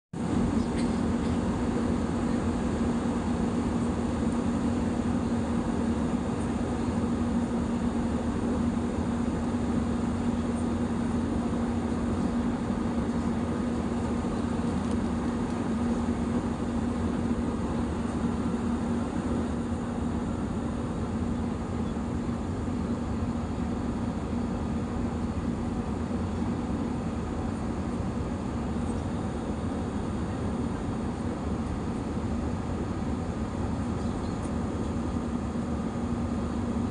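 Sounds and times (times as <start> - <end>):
airliner engines and airflow rumble: 0.2 - 36.9
constant low hum: 0.2 - 36.9.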